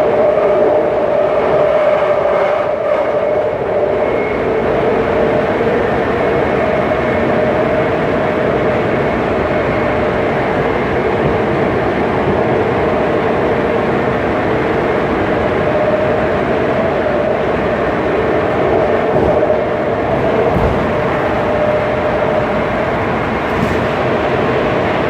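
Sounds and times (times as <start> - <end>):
constant train whine: 0.0 - 25.0
train rail noise: 0.0 - 25.0.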